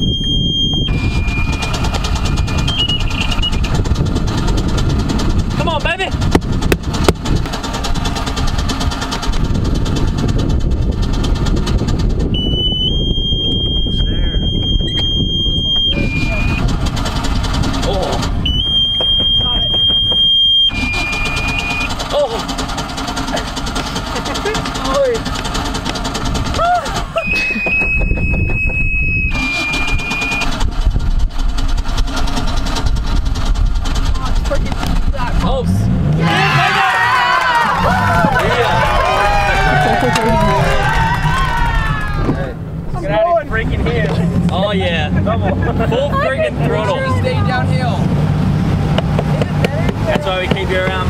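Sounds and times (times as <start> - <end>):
boat engine running: 0.0 - 51.0.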